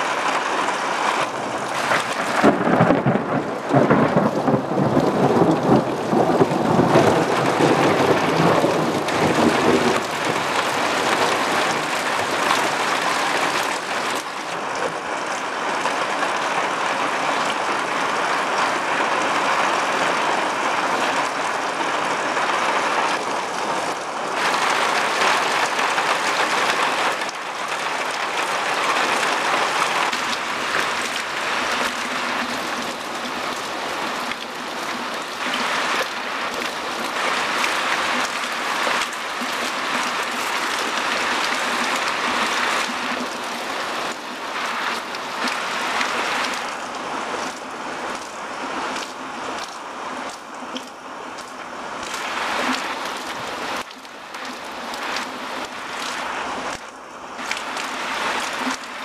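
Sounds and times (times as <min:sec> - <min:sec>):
rain and hail falling: 0:00.0 - 0:59.0.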